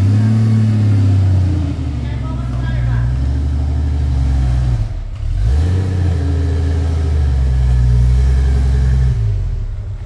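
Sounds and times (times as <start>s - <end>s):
off-road vehicle engine under load: 0.0s - 10.0s.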